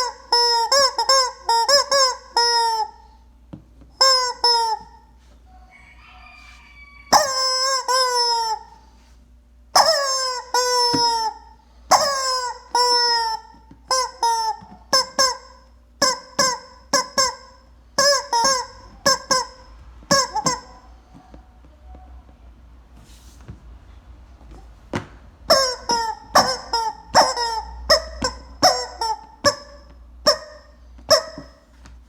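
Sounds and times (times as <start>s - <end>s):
rubber chicken toy squawking: 0.0s - 3.2s, 3.9s - 8.9s, 9.7s - 22.0s, 25.5s - 31.7s.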